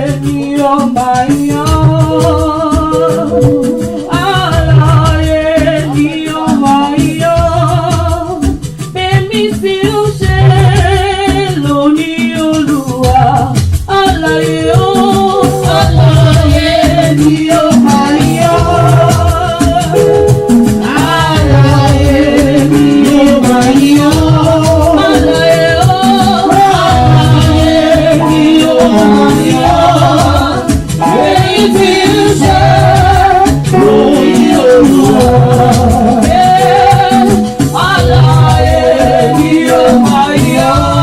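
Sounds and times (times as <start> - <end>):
drums and bass beat: 0.0 - 41.0
gospel singing: 0.0 - 41.0.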